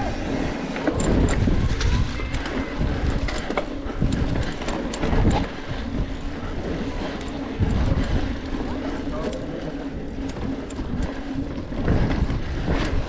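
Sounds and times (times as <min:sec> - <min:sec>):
bike clicks and rattles: 0:00.0 - 0:13.0
wind rumble on microphone: 0:00.0 - 0:13.0.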